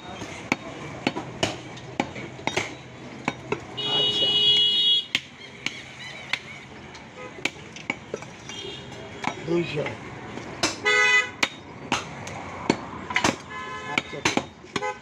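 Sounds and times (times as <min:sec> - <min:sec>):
cleavers chopping meat on wood: 0:00.0 - 0:04.0, 0:05.1 - 0:15.0.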